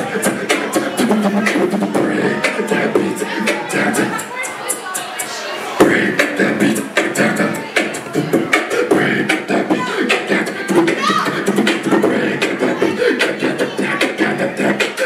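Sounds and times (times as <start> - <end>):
beatboxing: 0.0 - 15.0.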